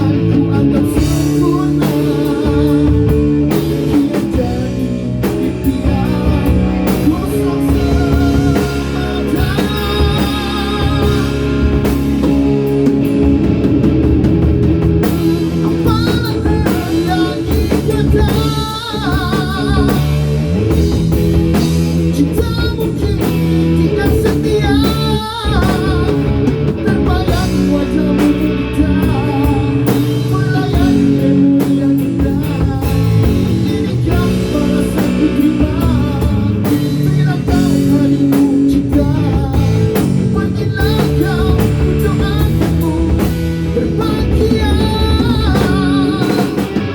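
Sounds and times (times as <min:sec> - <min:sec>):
person singing: 0:00.0 - 0:12.8, 0:15.0 - 0:21.1, 0:21.8 - 0:46.9
drum kit: 0:00.0 - 0:46.9
electric guitar: 0:00.0 - 0:46.9.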